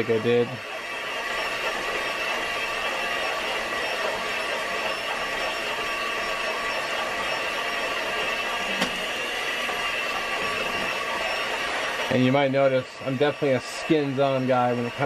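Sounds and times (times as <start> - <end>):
electric hand mixer running: 0.0 - 15.0.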